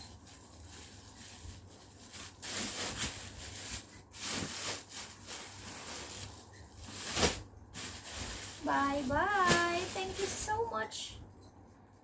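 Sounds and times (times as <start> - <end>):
rubbing and rustling: 0.0 - 11.9.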